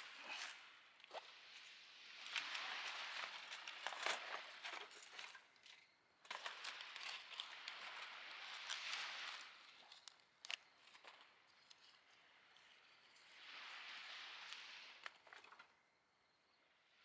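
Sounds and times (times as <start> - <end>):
rustling and crinkling: 0.0 - 15.8.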